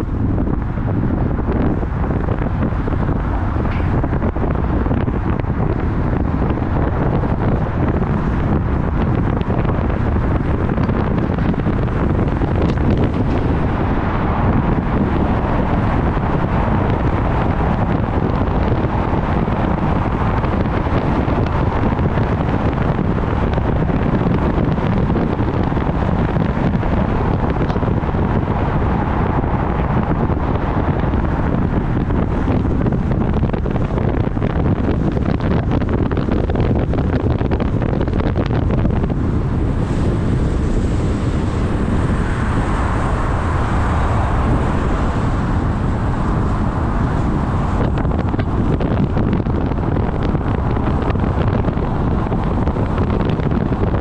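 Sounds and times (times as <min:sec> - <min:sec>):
road and tyre rumble: 0:00.0 - 0:54.0
wind on microphone: 0:00.0 - 0:54.0.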